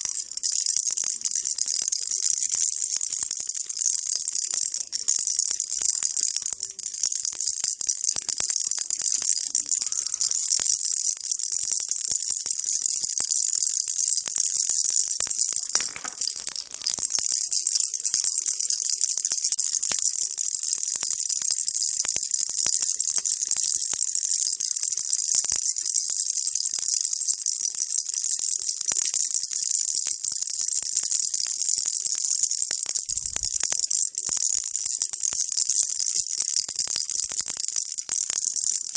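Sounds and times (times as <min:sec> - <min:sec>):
baby rattle shaking: 0:00.0 - 0:38.9.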